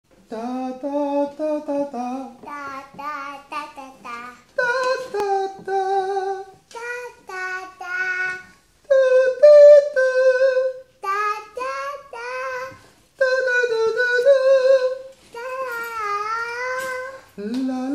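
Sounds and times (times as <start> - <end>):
man singing: 0.2 - 17.9
girl singing: 0.8 - 17.9.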